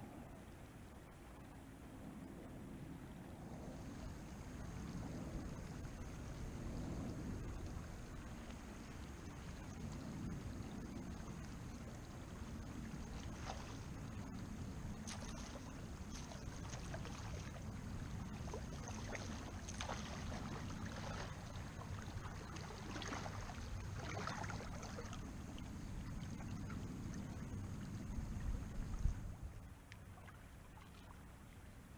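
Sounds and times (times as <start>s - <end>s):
river water lapping and gurgling: 0.0s - 31.9s.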